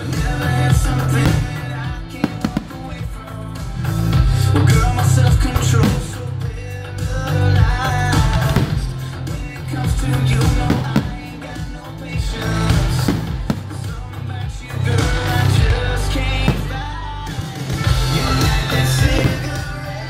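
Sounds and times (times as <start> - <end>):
drums: 0.0 - 20.0
guitar: 0.0 - 20.0
person singing: 0.0 - 20.0
rock music: 0.0 - 20.0.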